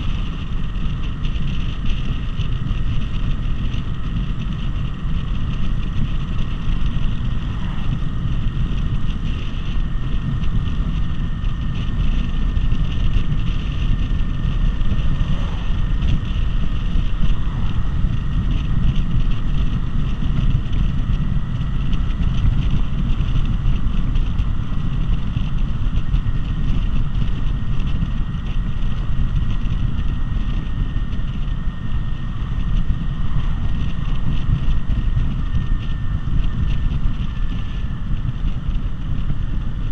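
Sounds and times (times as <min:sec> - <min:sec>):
faint high whine: 0:00.0 - 0:39.9
motorcycle engine drone: 0:00.0 - 0:39.9
wind noise on microphone: 0:00.0 - 0:39.9.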